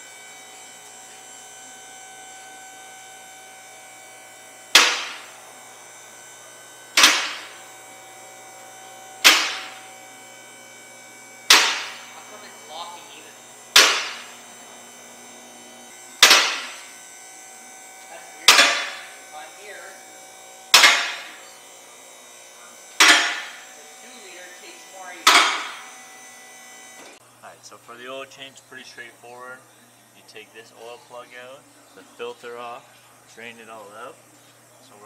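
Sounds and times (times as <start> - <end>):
electric hum: 0.0 - 35.0.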